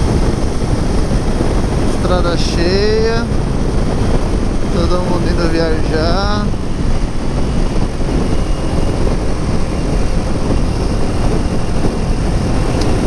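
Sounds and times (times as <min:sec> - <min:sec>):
motorcycle engine cruising: 0:00.0 - 0:13.0
wind rushing: 0:00.0 - 0:13.0.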